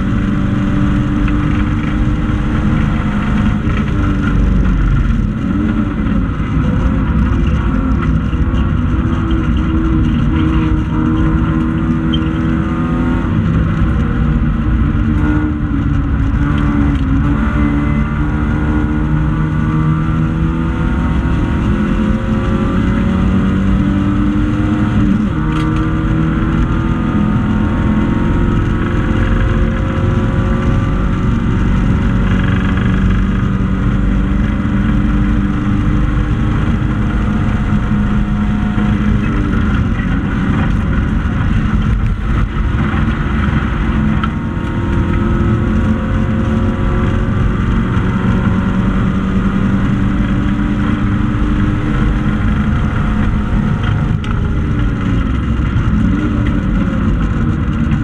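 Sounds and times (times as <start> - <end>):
car engine revving through gears: 0.0 - 58.0
road and drivetrain rumble: 0.0 - 58.0.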